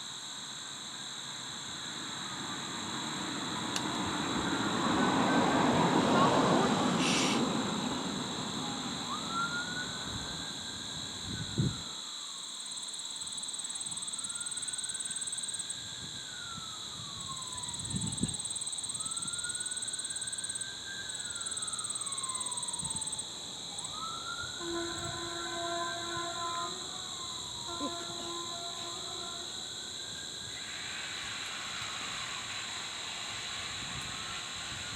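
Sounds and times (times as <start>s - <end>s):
faint warning siren wailing: 3.2s - 12.4s, 13.2s - 34.9s.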